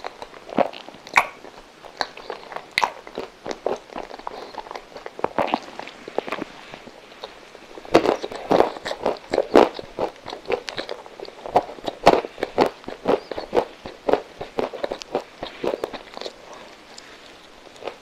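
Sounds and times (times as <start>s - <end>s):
crunchy chewing of nuts: 0.0s - 18.0s.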